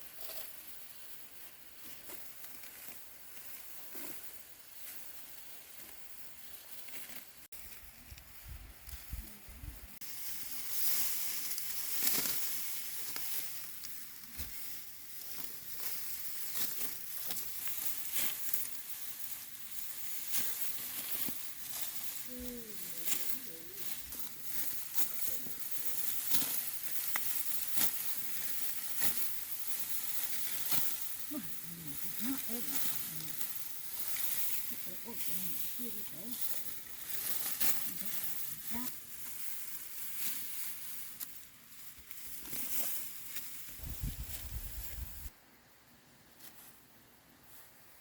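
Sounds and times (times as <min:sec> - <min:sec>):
rice stalks rustling and snapping: 0:05.6 - 0:45.3.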